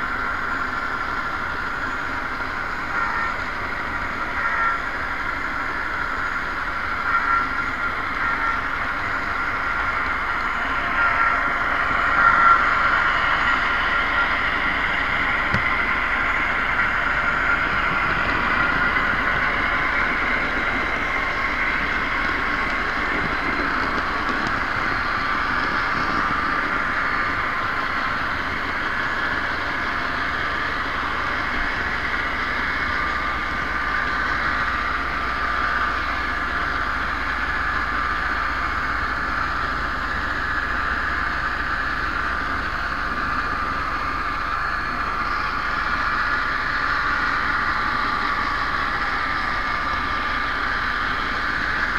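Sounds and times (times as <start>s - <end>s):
model train motor and wheels whining: 0.0s - 51.9s.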